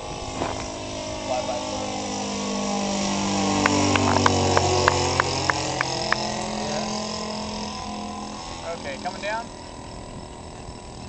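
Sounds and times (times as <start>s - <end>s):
propeller motor drone overhead: 0.0s - 11.0s.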